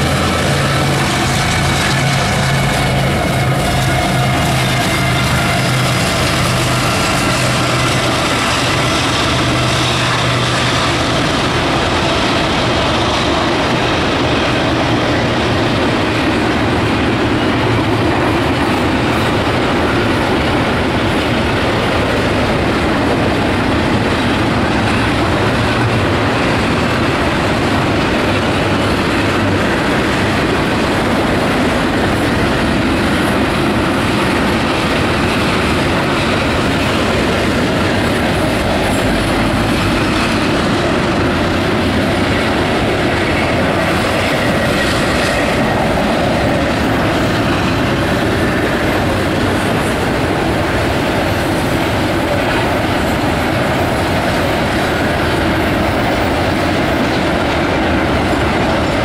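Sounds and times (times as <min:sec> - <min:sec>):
diesel locomotive engine drone: 0:00.0 - 0:59.0
train wheels clattering on rail: 0:00.0 - 0:59.0.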